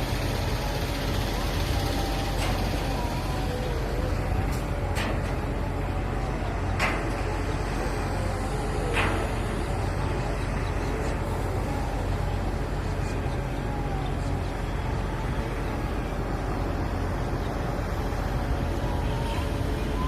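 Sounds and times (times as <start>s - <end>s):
faint distant voices: 0.0s - 20.0s.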